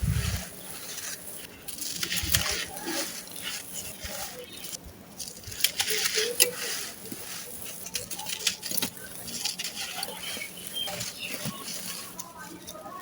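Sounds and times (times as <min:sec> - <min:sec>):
dry cement chunks crumbling: 0:00.1 - 0:13.0.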